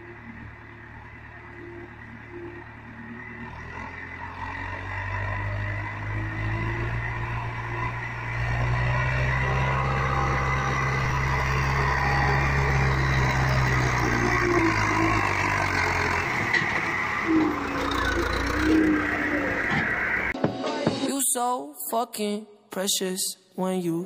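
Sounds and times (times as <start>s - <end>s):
tractor diesel engine under load: 0.0s - 20.4s.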